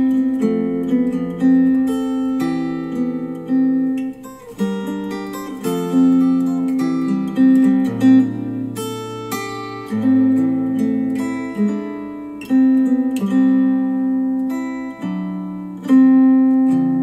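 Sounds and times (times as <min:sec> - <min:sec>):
instrumental guitar music: 0:00.0 - 0:17.0.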